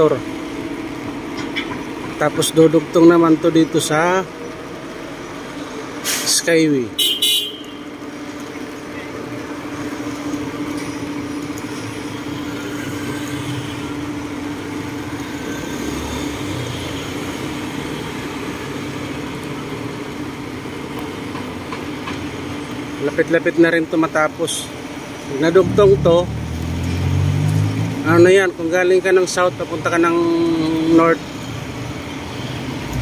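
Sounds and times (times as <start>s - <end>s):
road traffic hum: 0.0s - 33.0s.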